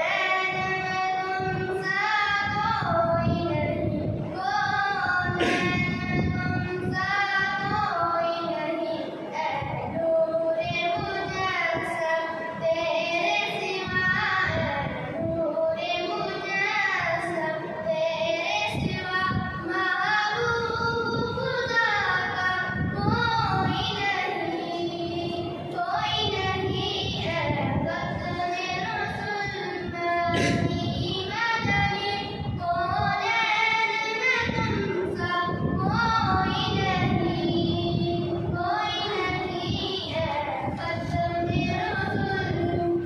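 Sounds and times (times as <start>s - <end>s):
high voice singing devotional song: 0.0s - 43.0s.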